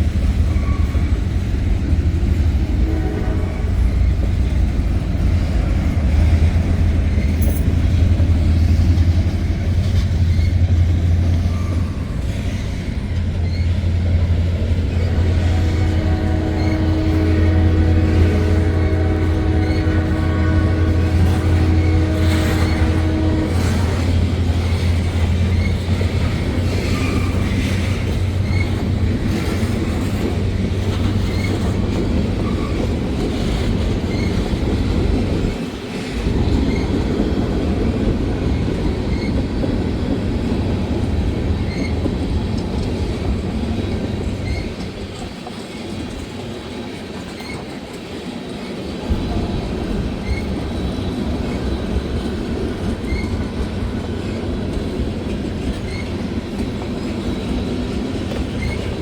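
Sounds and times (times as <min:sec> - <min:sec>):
train cars rumbling on rails: 0:00.0 - 0:59.0.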